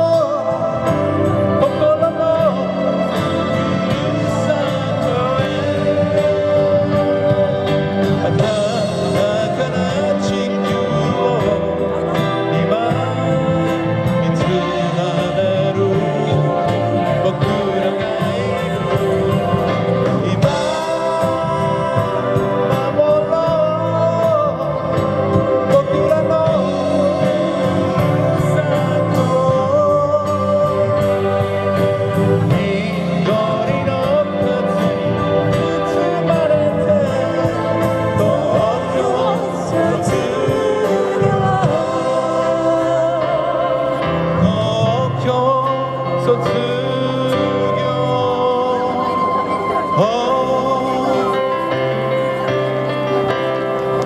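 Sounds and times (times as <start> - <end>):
live band playing: 0.0 - 54.0
man singing: 0.0 - 54.0.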